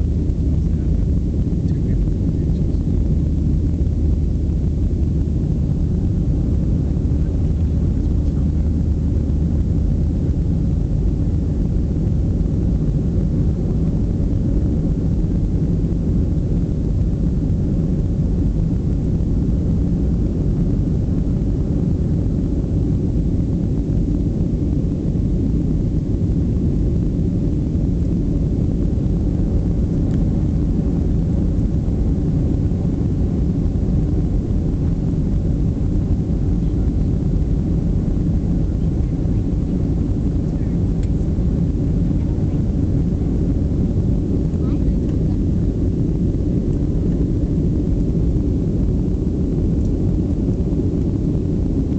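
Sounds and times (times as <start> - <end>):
jet engines and airflow rumble: 0.0 - 51.9.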